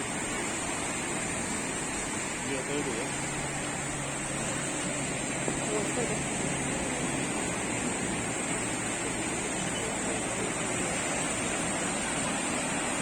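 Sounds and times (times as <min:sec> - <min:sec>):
sea waves washing onto shore: 0:00.0 - 0:13.0.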